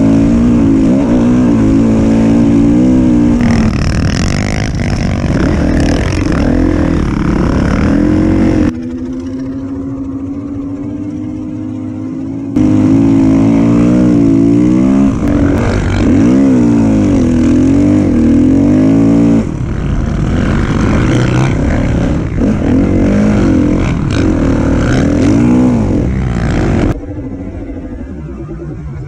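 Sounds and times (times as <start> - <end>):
dirt bike engine revving: 0.0 - 27.1.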